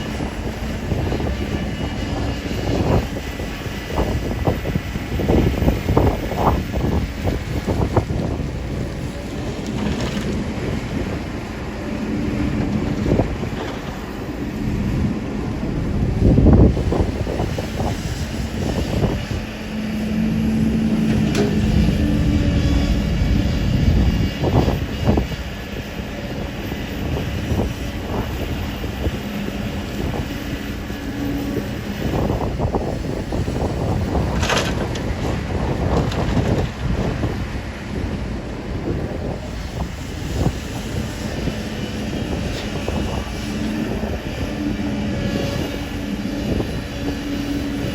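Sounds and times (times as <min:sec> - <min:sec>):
excavator diesel engine running: 0:00.0 - 0:47.9
wind on microphone: 0:00.0 - 0:47.9.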